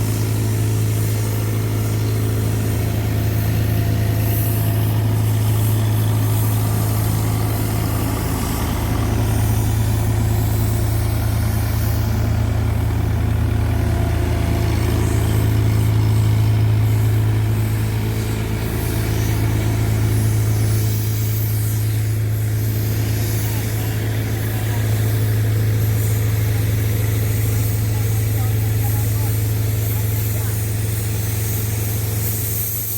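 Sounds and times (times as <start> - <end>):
road roller diesel engine running: 0.0 - 32.9.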